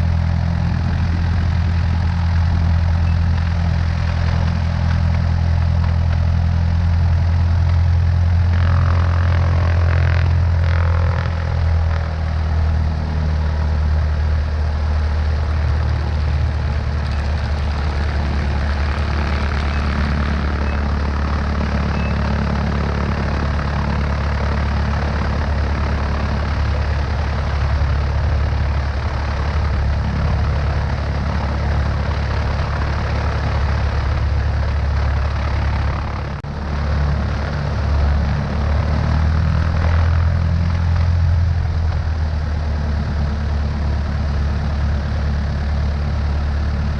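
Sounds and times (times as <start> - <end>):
light aircraft engine and propeller: 0.0 - 46.9.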